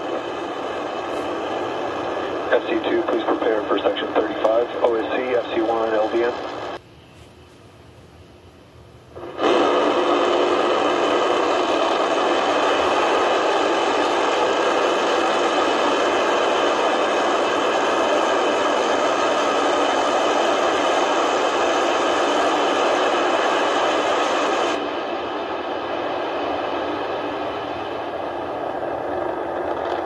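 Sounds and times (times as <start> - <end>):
rocket engines roaring: 0.0 - 6.8, 9.2 - 30.0.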